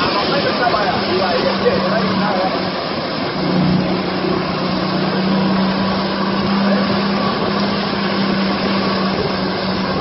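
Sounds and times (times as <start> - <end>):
outboard motor running: 0.0 - 10.0
water rushing from boat wake: 0.0 - 10.0.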